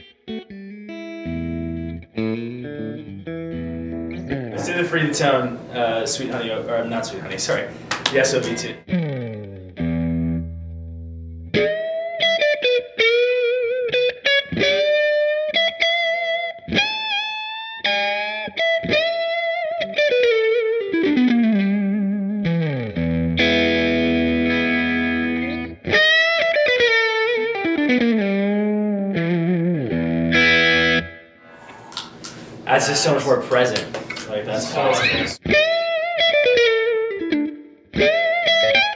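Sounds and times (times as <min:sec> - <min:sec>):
overdriven electric guitar: 0:00.0 - 0:04.5, 0:08.9 - 0:31.8, 0:34.8 - 0:38.9.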